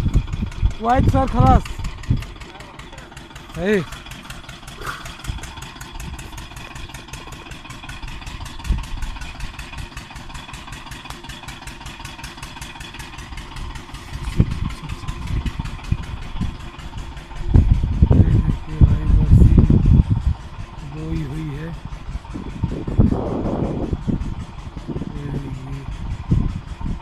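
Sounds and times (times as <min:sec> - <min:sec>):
engine idling: 0:00.0 - 0:27.0
low rumbles: 0:00.0 - 0:27.0.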